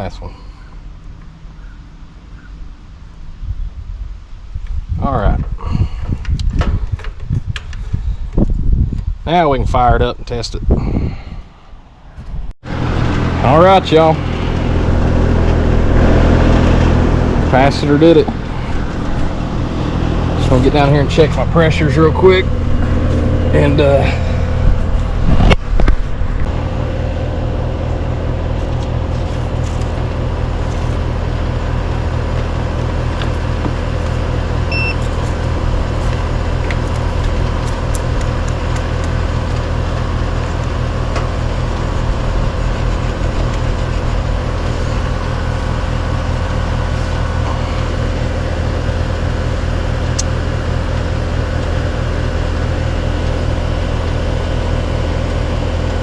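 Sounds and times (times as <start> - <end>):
air conditioning unit humming: 0.0 - 56.0.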